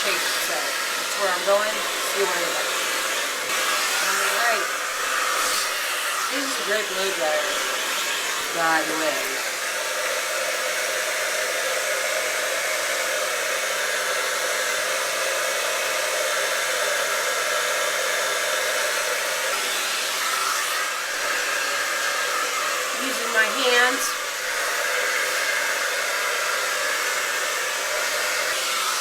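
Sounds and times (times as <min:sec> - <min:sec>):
hair dryer blowing: 0:00.0 - 0:29.0.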